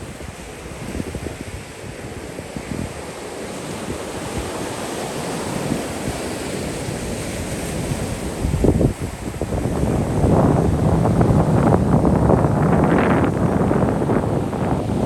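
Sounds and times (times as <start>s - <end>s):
sea waves washing onto beach: 0.0s - 15.0s
wind rumbling on microphone: 0.0s - 15.0s.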